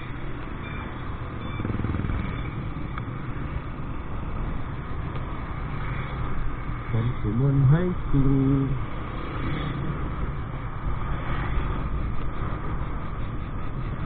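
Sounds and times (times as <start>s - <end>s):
motorcycle engine: 0.0s - 7.0s, 7.8s - 14.0s
wind rumble: 0.0s - 14.0s.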